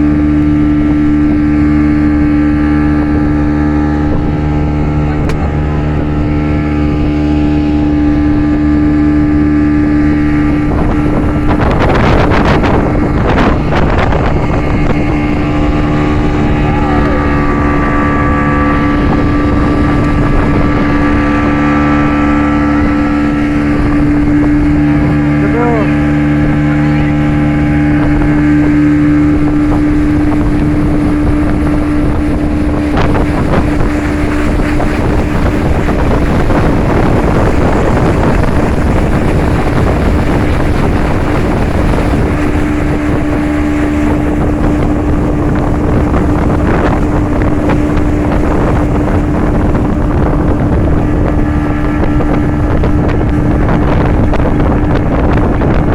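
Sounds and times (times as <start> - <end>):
hull rushing through water: 0.0 - 55.9
speedboat engine hum: 0.0 - 55.9
wind buffeting microphone: 0.0 - 55.9.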